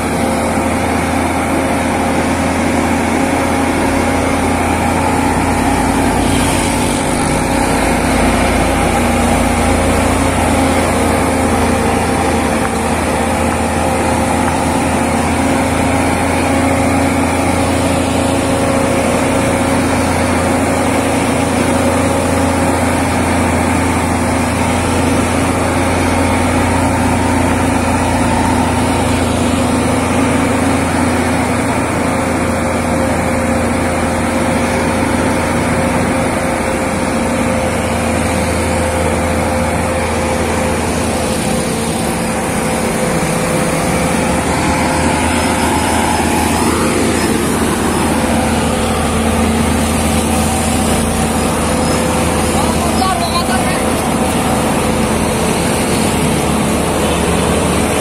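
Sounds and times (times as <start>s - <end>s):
truck diesel engine humming: 0.0s - 58.0s.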